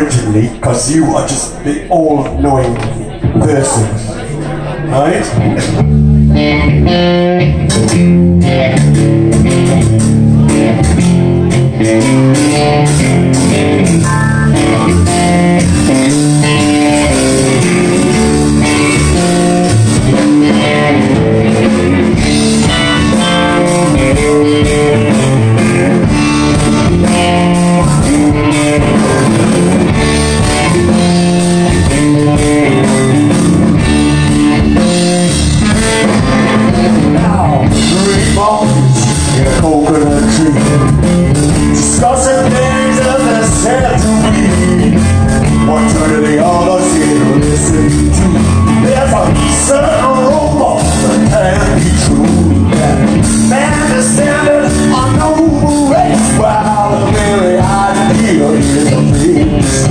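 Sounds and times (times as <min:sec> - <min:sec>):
electric bass guitar: 0:00.0 - 0:59.9
electric guitar riff: 0:04.6 - 0:59.9.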